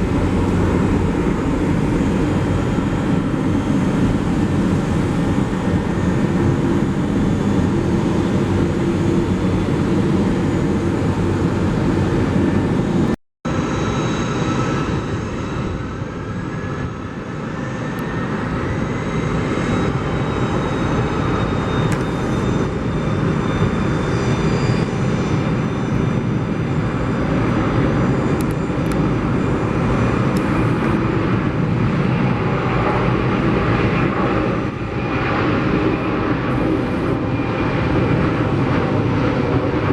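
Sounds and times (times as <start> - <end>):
airliner engines roaring: 0.0 - 39.9.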